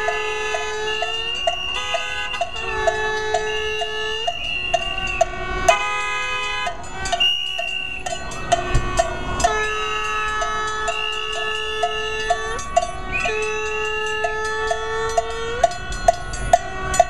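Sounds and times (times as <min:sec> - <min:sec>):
cowbells struck in a beat: 0:00.0 - 0:17.0
held horn blasts: 0:00.0 - 0:17.0.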